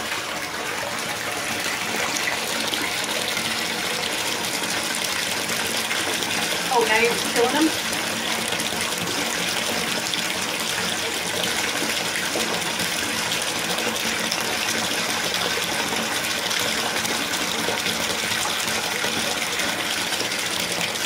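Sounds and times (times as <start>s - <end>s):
water running into bathtub: 0.0s - 21.0s.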